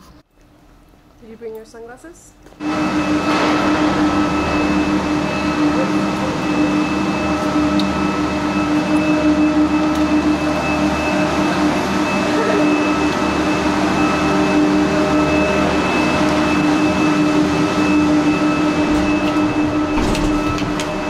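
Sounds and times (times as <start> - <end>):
machinery humming: 2.4 - 21.0
high mechanical whine: 2.6 - 21.0.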